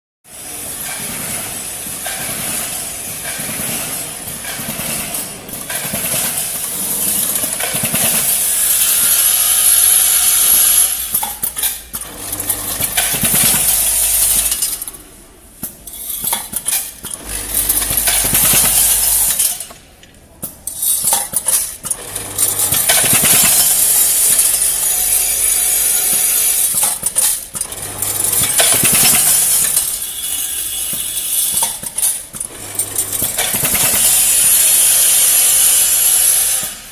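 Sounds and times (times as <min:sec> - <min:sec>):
screws rattling and clinking in machine: 0:00.8 - 0:15.0, 0:15.6 - 0:36.9.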